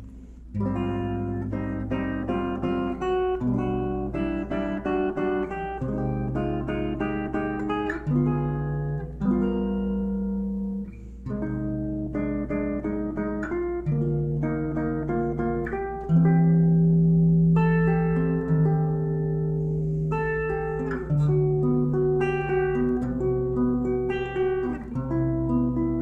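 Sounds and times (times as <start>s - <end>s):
solo guitar playing: 0.0s - 26.0s.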